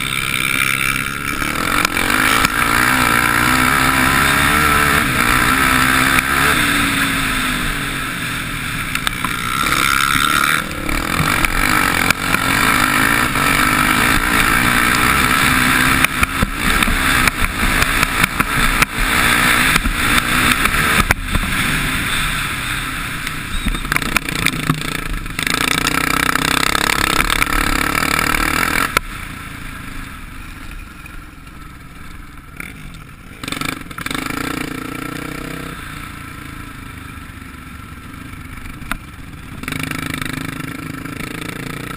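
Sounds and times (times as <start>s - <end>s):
quad bike engine revving: 0.0s - 30.2s, 32.6s - 41.9s.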